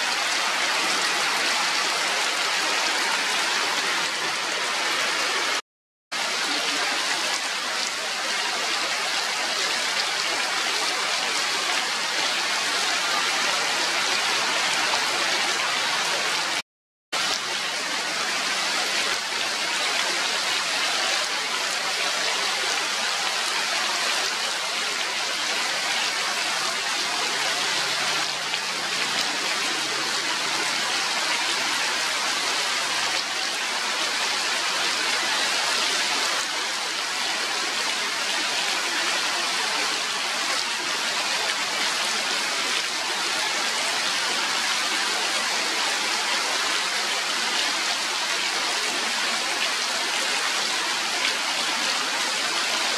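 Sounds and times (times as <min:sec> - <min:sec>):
heavy rain on foliage: 0:00.0 - 0:16.6, 0:17.2 - 0:52.9.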